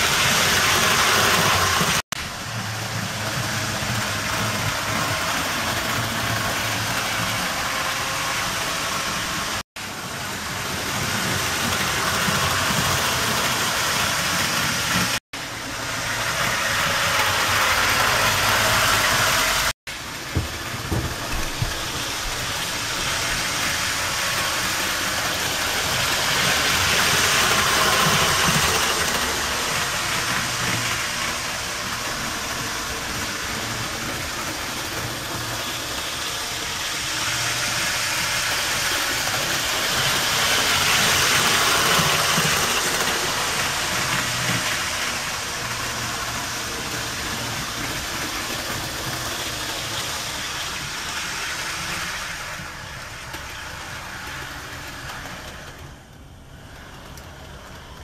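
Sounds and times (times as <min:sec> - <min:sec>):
model train motor whir: 0:00.0 - 0:58.0
wheels rumbling on rails: 0:00.0 - 0:58.0.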